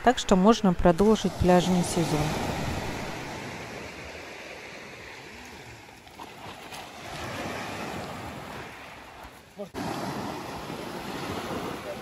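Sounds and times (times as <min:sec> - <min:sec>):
surf washing onto beach: 0:01.0 - 0:12.0.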